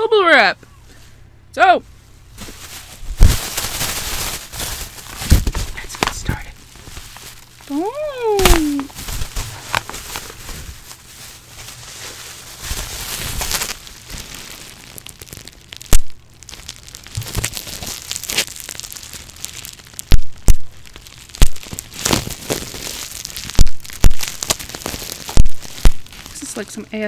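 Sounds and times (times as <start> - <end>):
bubble wrap crinkling: 1.9 - 27.0
bubble wrap popping: 2.3 - 26.8.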